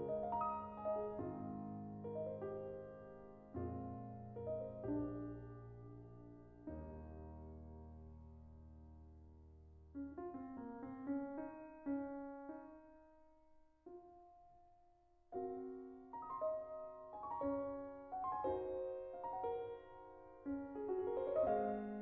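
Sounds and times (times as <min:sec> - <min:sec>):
slow classical piano: 0:00.0 - 0:22.0.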